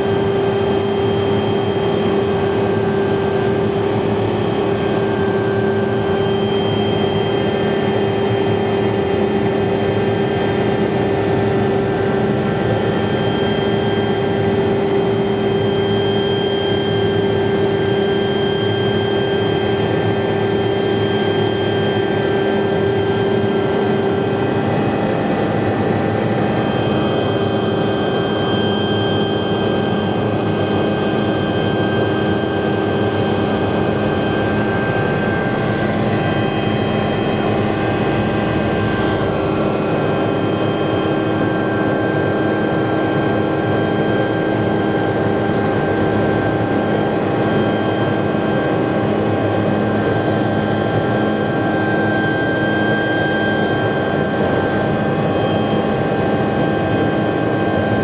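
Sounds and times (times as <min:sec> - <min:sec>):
helicopter turbine and rotor: 0:00.0 - 0:58.0.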